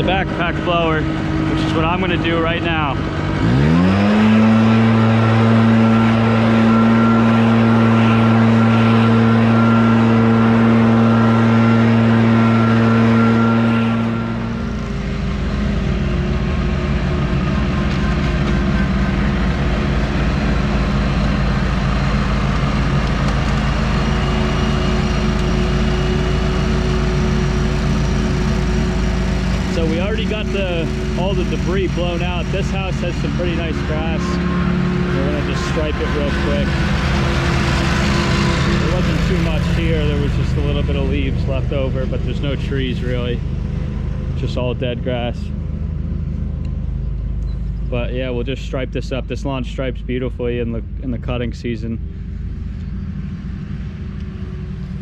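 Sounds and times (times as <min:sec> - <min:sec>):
leaf blower engine revving: 0:00.0 - 0:45.6.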